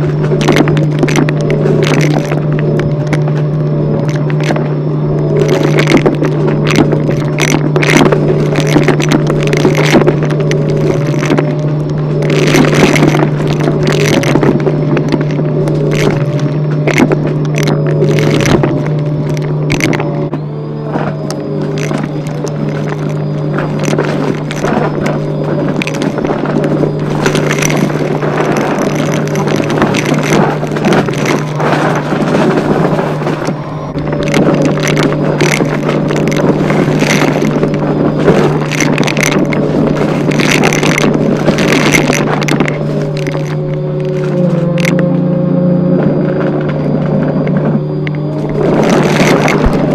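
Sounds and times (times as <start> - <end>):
vacuum cleaner running: 0.0 - 49.9
vacuum scraping and clicking: 0.0 - 49.9.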